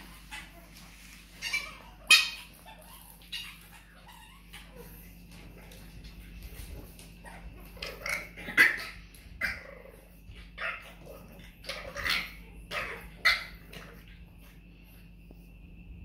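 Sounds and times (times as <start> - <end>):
puppies barking and yipping: 0.0 - 14.6.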